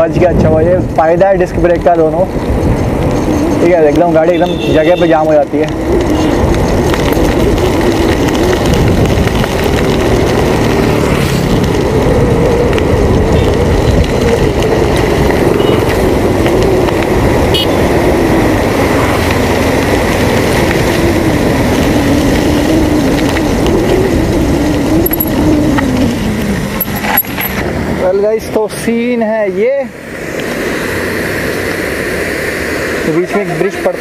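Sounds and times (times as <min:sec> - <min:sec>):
wind rushing over microphone: 0:00.0 - 0:34.0.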